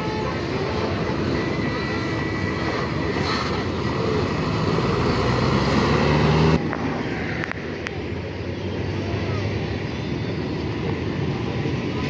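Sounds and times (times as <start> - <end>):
bus engine accelerating: 0.0 - 12.0
traffic hum: 0.0 - 12.0.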